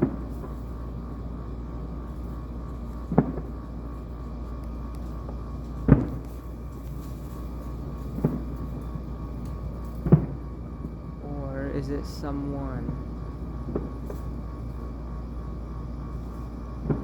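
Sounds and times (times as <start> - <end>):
fireworks booming: 0.0 - 17.0
steady low rumble: 0.0 - 17.0.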